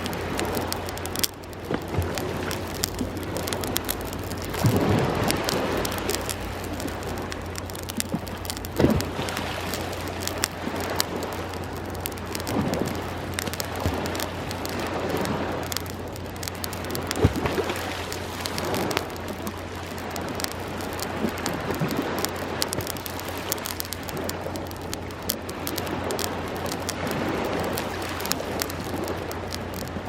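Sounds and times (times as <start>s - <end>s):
bonfire crackling and popping: 0.0s - 30.0s
waves washing on shore: 0.0s - 30.0s.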